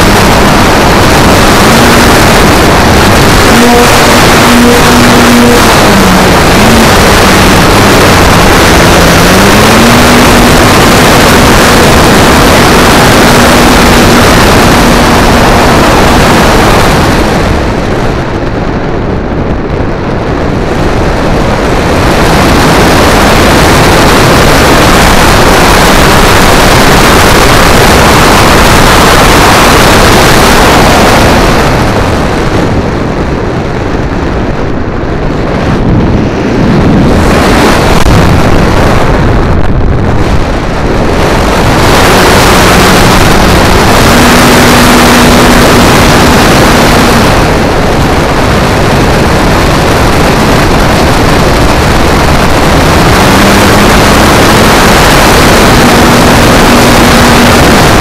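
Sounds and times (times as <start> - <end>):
model plane motor and propeller hum: 0.0 - 32.5, 40.2 - 58.0
loud wind rush: 0.0 - 58.0.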